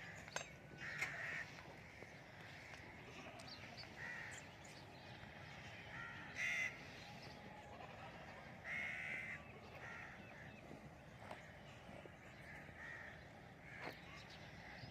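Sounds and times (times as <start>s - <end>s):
steady low background noise: 0.0s - 14.9s.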